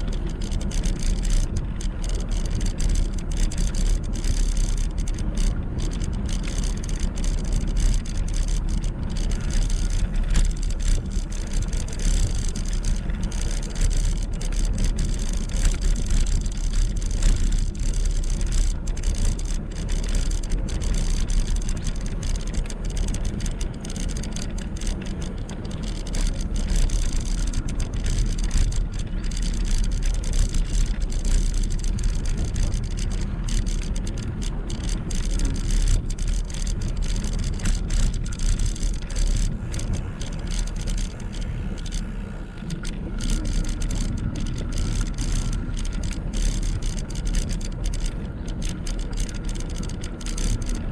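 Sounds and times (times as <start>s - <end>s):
bicycle tyre noise: 0.0s - 50.9s
wind rumble on microphone: 0.0s - 50.9s.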